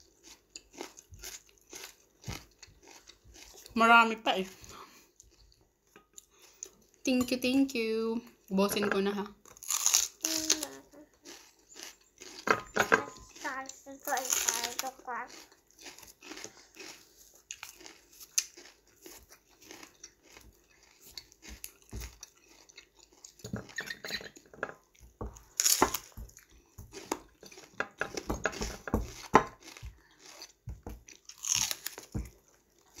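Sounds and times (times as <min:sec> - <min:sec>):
person chewing crunchy vegetable: 0:00.0 - 0:07.0, 0:09.4 - 0:33.0.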